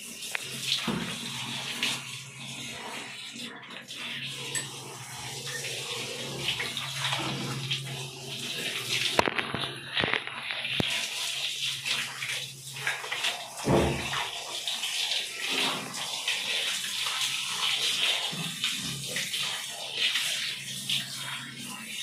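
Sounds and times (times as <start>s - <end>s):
shower hose spraying water: 0.0s - 22.0s.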